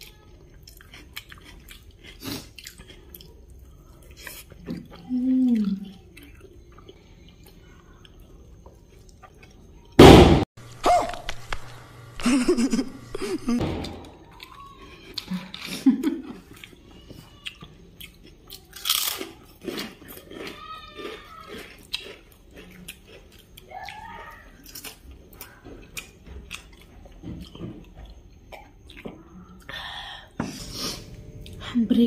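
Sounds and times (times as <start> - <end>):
people chewing food: 0.0 - 10.0, 10.6 - 31.8.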